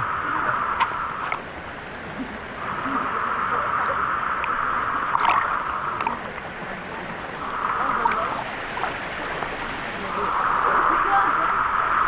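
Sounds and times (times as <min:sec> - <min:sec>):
small water splashes: 0:00.0 - 0:11.9
waterfall and river rushing: 0:00.1 - 0:12.0.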